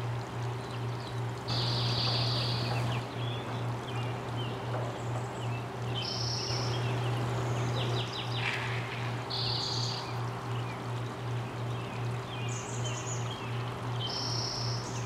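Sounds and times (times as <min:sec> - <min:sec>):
steady low hum: 0:00.0 - 0:15.0
small birds chirping: 0:00.7 - 0:15.0.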